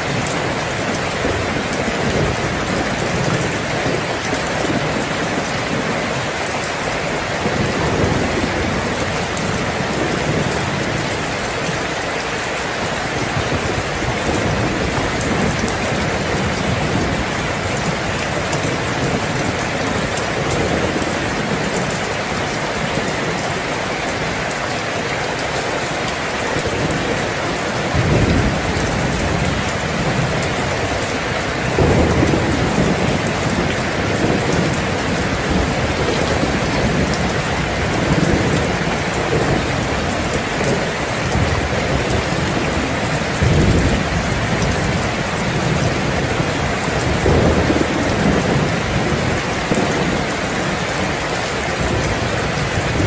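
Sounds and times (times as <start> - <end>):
heavy rain: 0.0 - 53.0
low rolling thunder: 0.1 - 6.2, 13.2 - 24.3, 26.6 - 53.0.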